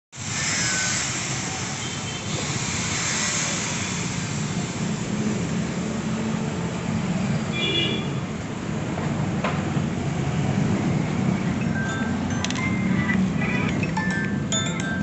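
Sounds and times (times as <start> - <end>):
mechanical rushing noise: 0.2 - 6.1, 8.7 - 15.0.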